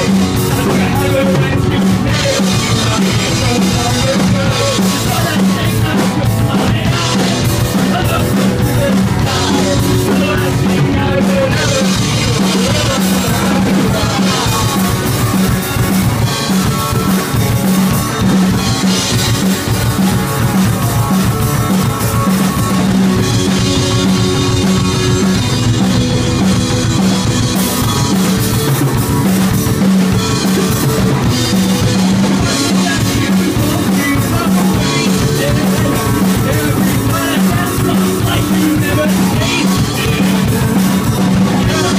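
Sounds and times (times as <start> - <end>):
drum kit: 0.0 - 41.9
live rock band playing: 0.0 - 41.9.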